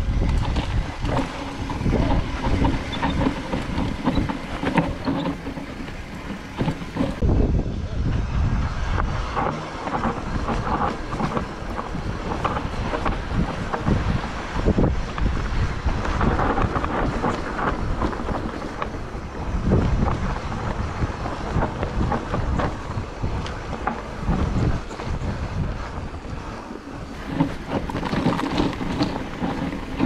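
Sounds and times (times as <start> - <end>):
bike knocking and rattling: 0.0 - 7.3, 8.0 - 30.0
tyres rumbling over dirt: 0.0 - 7.3, 8.0 - 30.0
wind buffeting microphone: 0.0 - 30.0.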